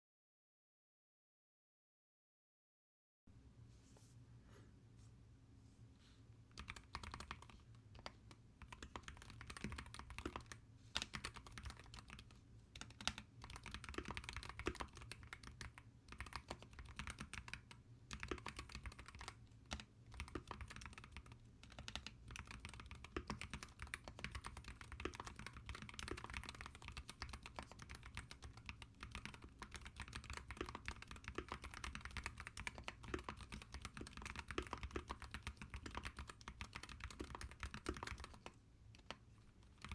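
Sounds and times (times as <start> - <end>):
keyboard typing clacks: 6.6 - 39.9.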